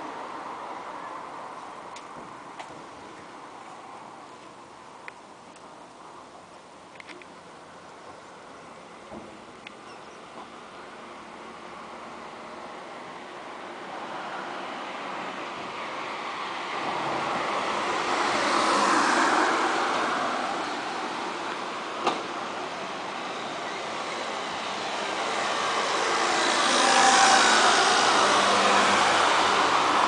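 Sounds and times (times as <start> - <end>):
cars passing on a road: 0.0 - 30.0.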